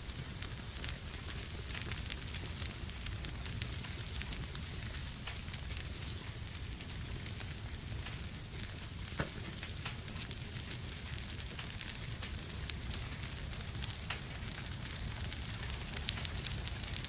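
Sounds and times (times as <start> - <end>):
fireplace fire crackling and popping: 0.0 - 17.0.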